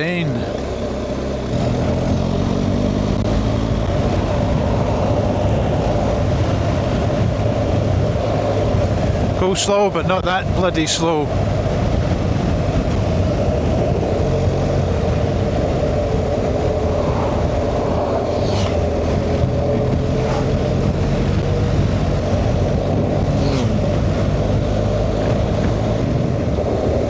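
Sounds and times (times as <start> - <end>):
motorcycle engine running: 0.0 - 27.0
road and wind rush: 0.0 - 27.0.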